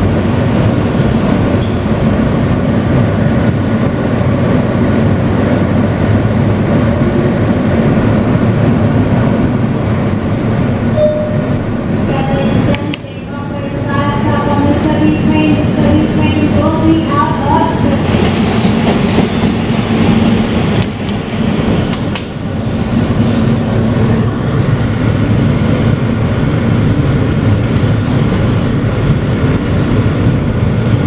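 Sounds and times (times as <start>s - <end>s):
subway wheels rumbling on rail: 0.0s - 31.0s.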